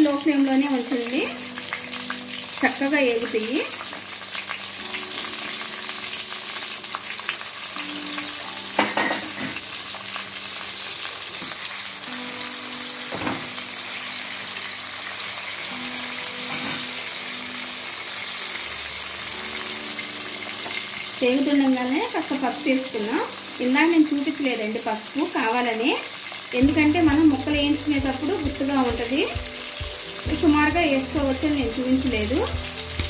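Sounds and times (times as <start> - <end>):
lemon frying in oil: 0.0 - 33.0.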